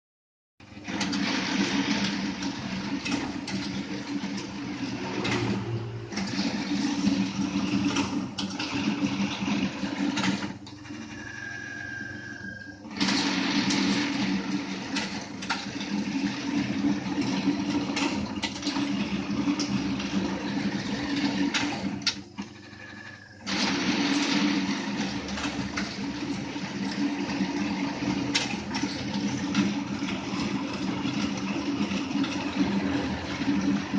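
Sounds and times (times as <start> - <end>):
machine humming and clattering: 0.6 - 33.9.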